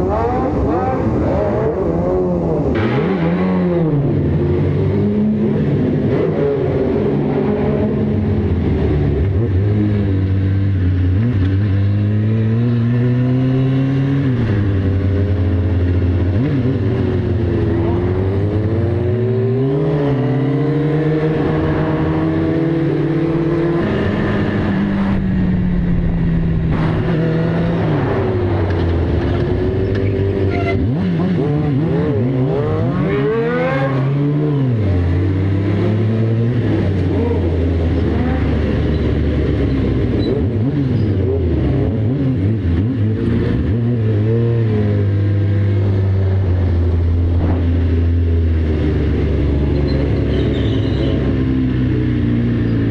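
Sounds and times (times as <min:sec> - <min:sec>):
motorcycle engines revving: 0:00.0 - 0:52.9
road and wind noise: 0:00.0 - 0:52.9.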